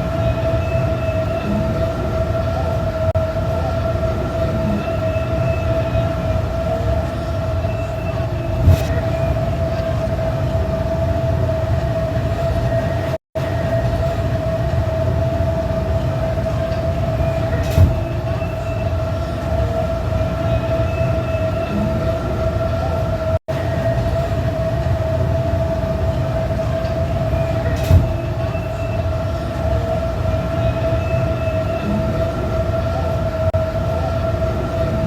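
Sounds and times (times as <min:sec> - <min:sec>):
machine hum with whine: 0:00.0 - 0:35.0.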